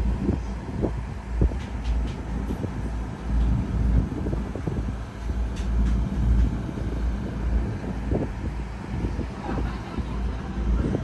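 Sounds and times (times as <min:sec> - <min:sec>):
boat engine noise: 0:00.0 - 0:11.0
wind buffeting microphone: 0:00.0 - 0:11.0.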